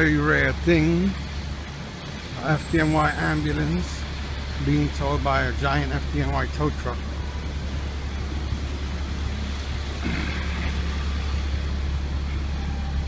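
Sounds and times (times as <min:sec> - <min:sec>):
road noise: 0:00.0 - 0:13.0
vehicle engines idling in traffic: 0:00.0 - 0:13.0.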